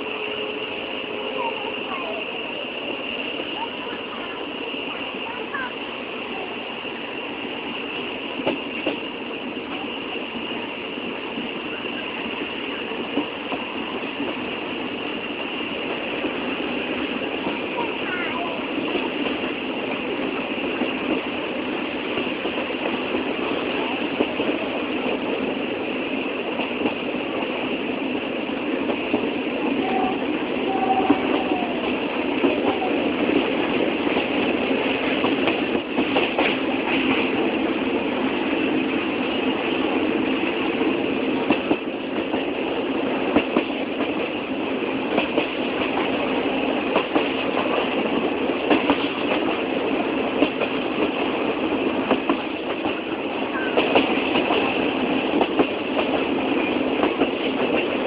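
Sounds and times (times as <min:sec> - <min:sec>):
train rumble and rattle: 0:00.0 - 0:58.0
train wheels clacking: 0:00.0 - 0:58.0.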